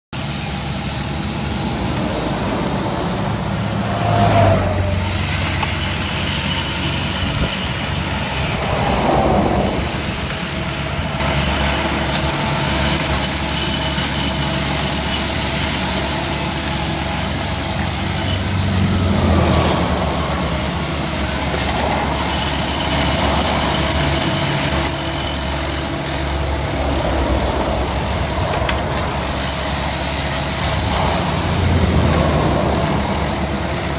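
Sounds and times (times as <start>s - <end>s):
diesel engine under load: 0.1s - 33.9s
mower heads cutting grass: 0.2s - 33.9s.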